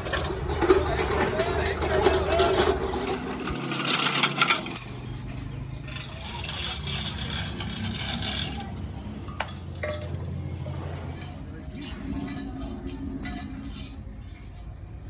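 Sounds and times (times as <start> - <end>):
metal clinking and rattling: 0.0 - 15.0.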